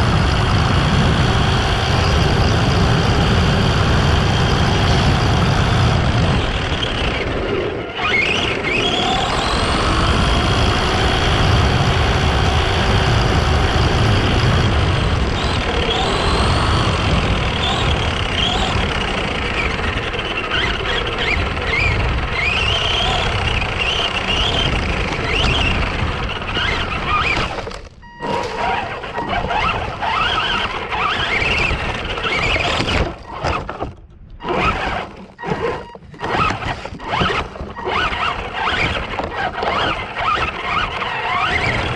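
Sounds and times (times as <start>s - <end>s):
electric motor whining: 0.0s - 41.9s
tyres rumbling over terrain: 0.0s - 41.9s.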